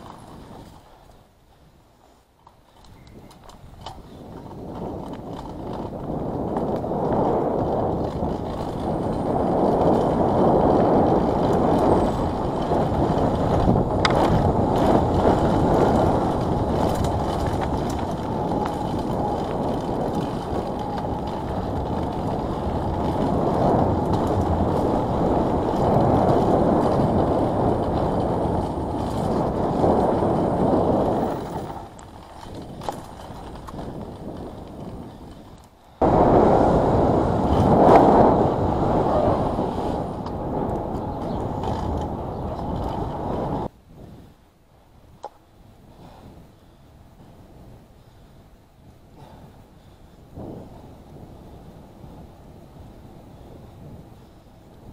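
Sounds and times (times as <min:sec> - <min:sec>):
wind rushing over microphone: 0:00.0 - 0:01.0, 0:03.0 - 0:54.9
bike tyres rumbling on dirt: 0:00.0 - 0:44.4, 0:45.0 - 0:54.9.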